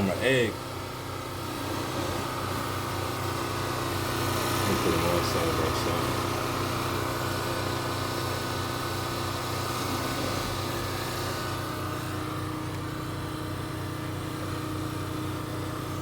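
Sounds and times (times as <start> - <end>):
motor droning hum: 0.0 - 16.0.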